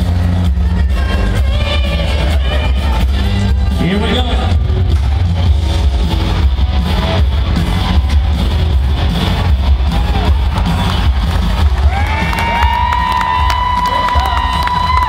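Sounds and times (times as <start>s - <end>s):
guitar: 0.0s - 15.0s
loud music with heavy bass: 0.0s - 15.0s.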